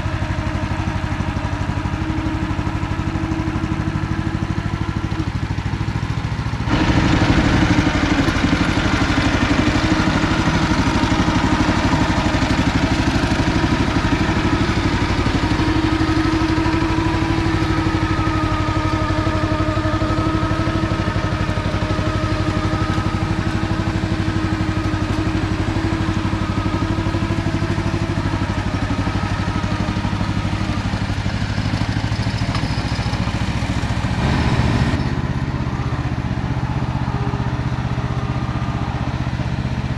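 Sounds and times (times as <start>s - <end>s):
walking tractor engine running: 0.0s - 39.9s.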